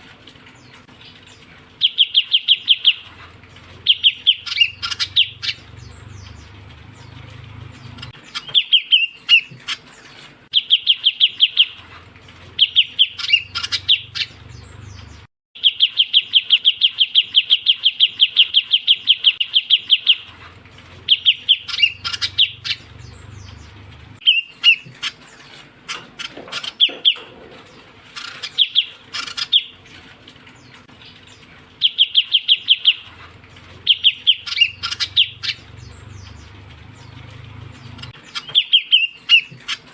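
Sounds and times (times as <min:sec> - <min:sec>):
bird chattering trills: 0:00.5 - 0:39.9.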